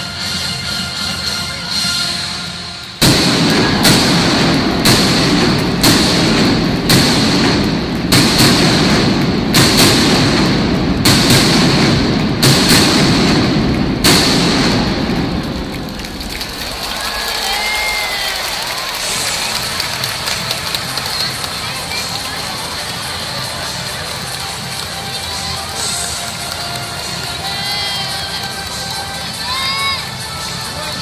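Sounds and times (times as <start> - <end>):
fireworks rumble: 0.0 - 31.0
fireworks bangs: 2.9 - 30.0.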